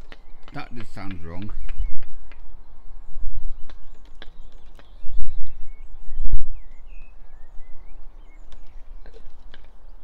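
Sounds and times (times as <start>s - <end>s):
small birds chirping: 0.0s - 10.0s
wind buffeting microphone: 0.0s - 10.0s.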